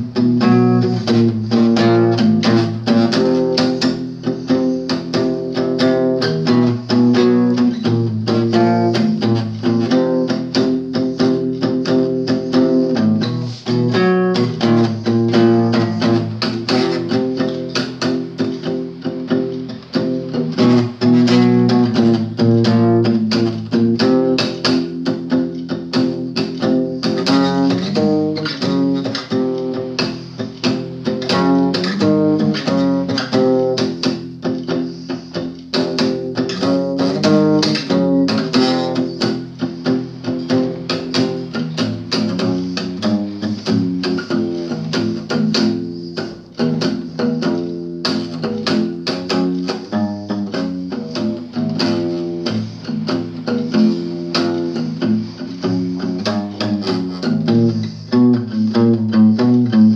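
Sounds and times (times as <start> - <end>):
acoustic guitar rapid strumming: 0.0 - 59.9.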